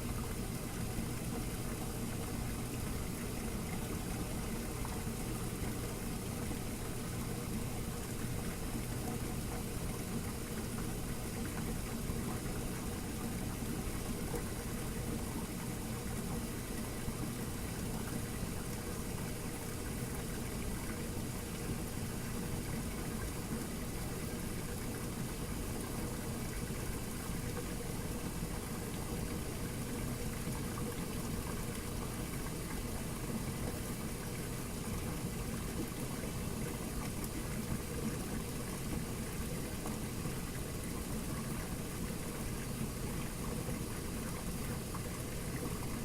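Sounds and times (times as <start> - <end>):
washing machine running: 0.0 - 46.0.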